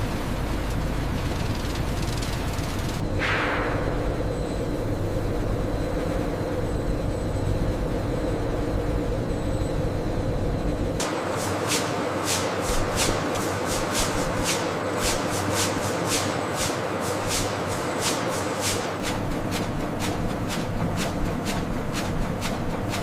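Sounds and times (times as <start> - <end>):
machinery clatter with sharp ticks: 0.0 - 7.8, 10.6 - 23.0
machinery humming: 0.0 - 23.0.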